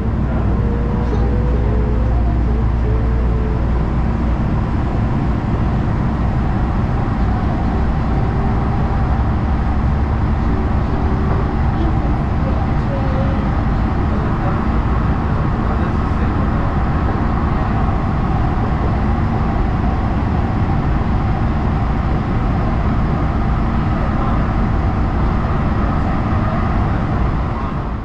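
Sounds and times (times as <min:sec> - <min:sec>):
rail car rumbling on track: 0:00.0 - 0:28.0.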